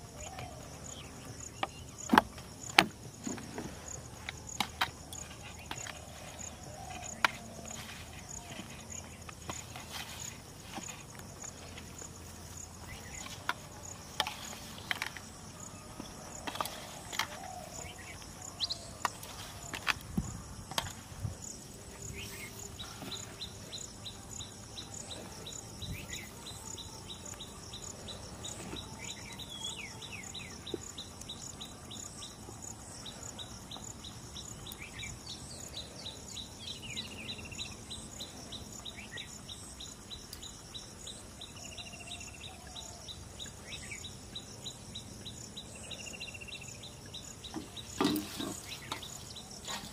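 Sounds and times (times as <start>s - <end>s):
insects calling: 0.0s - 49.9s.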